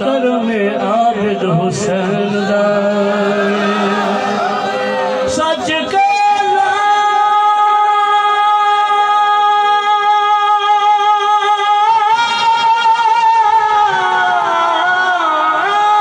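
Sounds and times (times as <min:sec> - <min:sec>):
man singing a long held note: 0:00.0 - 0:16.0.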